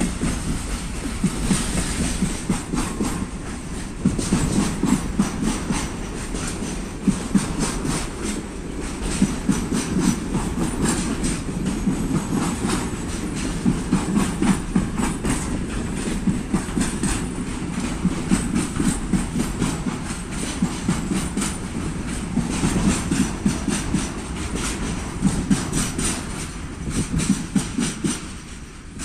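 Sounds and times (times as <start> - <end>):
freight train rumbling past: 0.0 - 29.0
wheels clacking on rails: 0.0 - 29.0.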